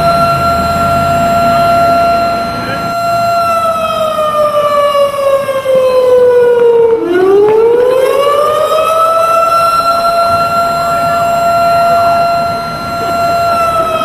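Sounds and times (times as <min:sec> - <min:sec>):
fire truck siren wailing: 0:00.0 - 0:14.0.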